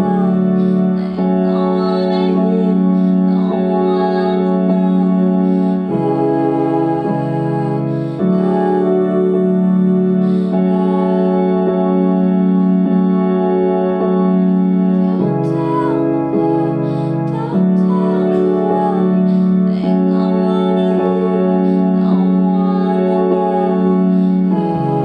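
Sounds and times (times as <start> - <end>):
wordless voice singing: 0.0 - 13.1, 14.7 - 25.0
organ-like keyboard chords: 0.0 - 25.0.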